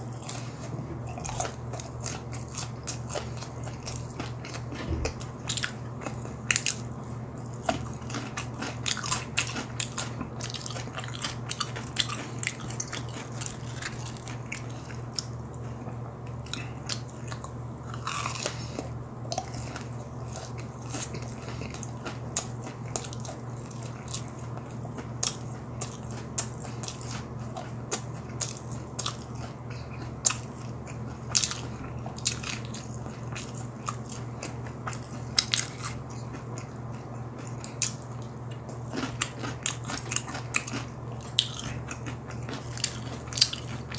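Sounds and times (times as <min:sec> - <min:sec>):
person chewing crispy chicken: 0:00.0 - 0:43.9
steady low hum: 0:00.0 - 0:43.9.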